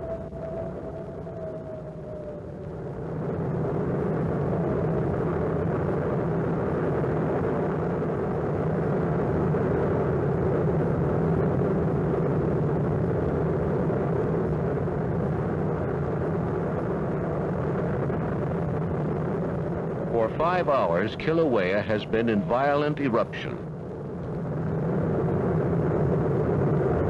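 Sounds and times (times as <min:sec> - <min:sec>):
volcanic eruption roar: 0:00.0 - 0:27.0.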